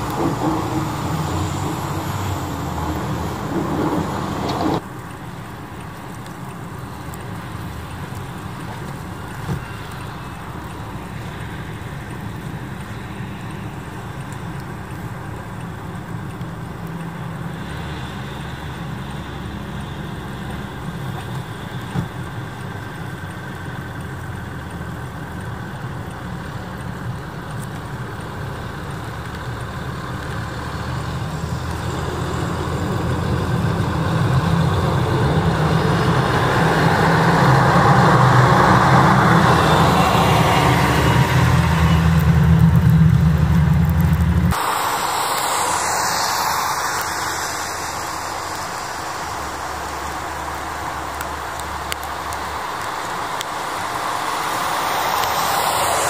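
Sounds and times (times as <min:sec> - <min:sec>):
plow pushing snow rushing: 0:00.0 - 0:56.0
truck engines rumbling: 0:00.0 - 0:56.0.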